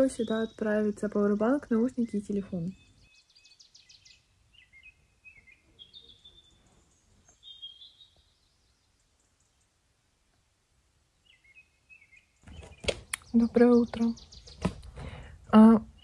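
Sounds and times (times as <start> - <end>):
faint bird chirps: 0.0 - 9.9, 11.2 - 16.0.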